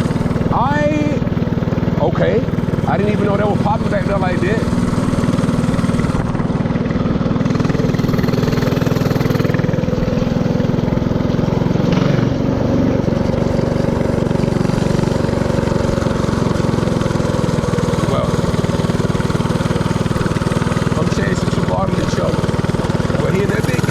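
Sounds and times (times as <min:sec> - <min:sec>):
mini-bike engine running: 0:00.0 - 0:23.9.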